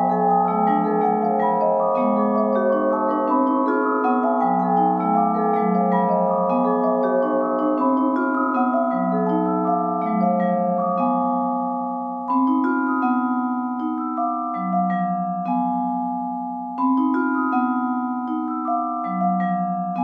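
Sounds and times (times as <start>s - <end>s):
vibraphone notes ringing: 0.0s - 20.0s.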